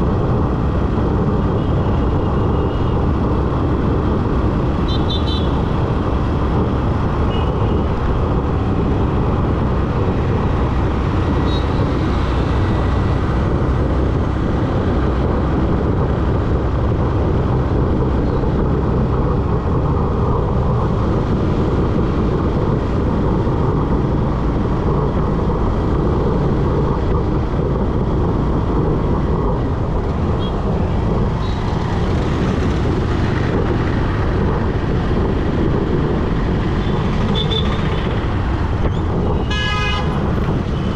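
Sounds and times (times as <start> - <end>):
motorcycle engine and wind rumble: 0.0 - 40.9
passing traffic: 0.0 - 40.9.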